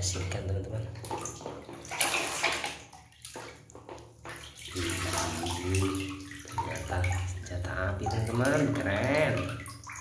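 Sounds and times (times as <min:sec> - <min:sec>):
water splashing in a basin: 0:00.0 - 0:10.0.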